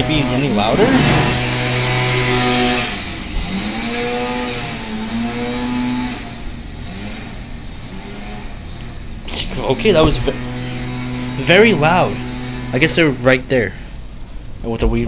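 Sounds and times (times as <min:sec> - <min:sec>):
weed whacker engine revving: 0:00.0 - 0:09.0, 0:09.7 - 0:13.5.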